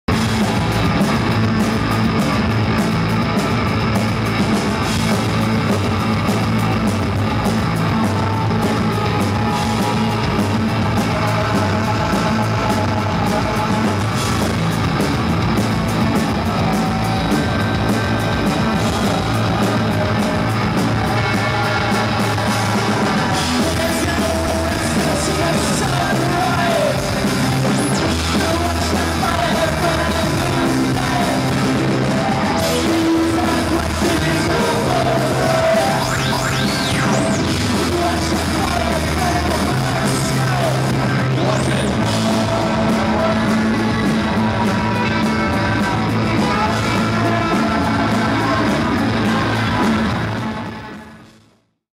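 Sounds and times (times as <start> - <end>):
rock music with electric guitars: 0.0 - 51.5
person singing: 7.2 - 51.5.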